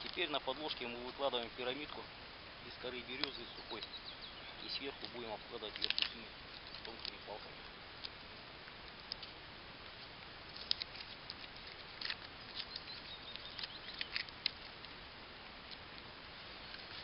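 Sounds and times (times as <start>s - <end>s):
dry bark crackling: 0.0s - 17.0s.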